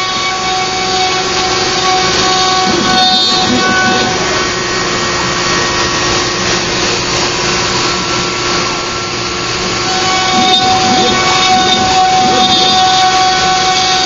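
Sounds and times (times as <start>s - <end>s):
bit cutting wood: 0.0s - 14.0s
router motor whine: 0.0s - 14.0s.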